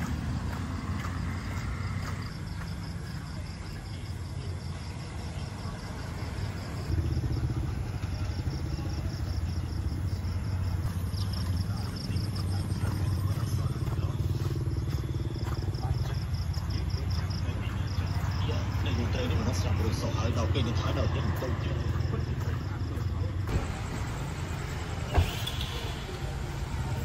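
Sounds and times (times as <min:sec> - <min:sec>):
insects chirping: 0:00.0 - 0:27.0
traffic engine hum: 0:00.0 - 0:27.0.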